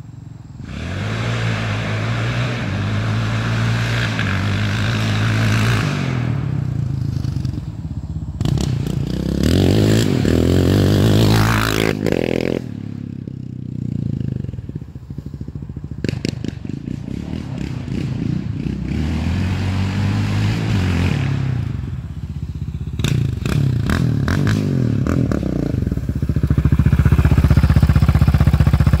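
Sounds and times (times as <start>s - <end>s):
atv engine revving: 0.6s - 29.0s
sharp exhaust cracks: 0.6s - 29.0s.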